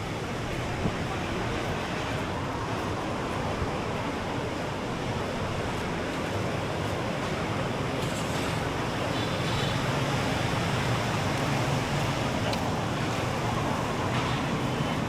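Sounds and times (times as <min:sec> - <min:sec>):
ocean surf on beach: 0:00.0 - 0:15.0.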